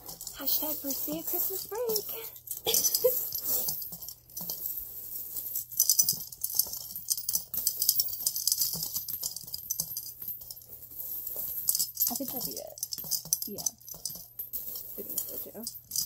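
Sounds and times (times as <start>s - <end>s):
coins clinking into piggy bank: 0.0s - 16.0s
coins picked up off carpet: 0.1s - 16.0s.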